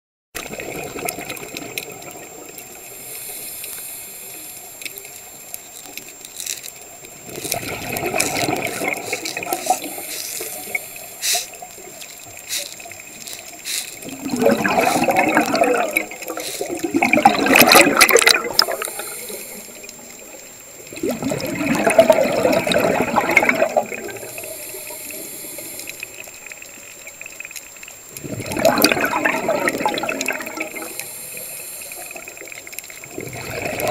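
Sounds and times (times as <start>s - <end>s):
quiet hiss: 0.4s - 33.9s
underwater exhaled bubbles rushing: 0.4s - 33.9s.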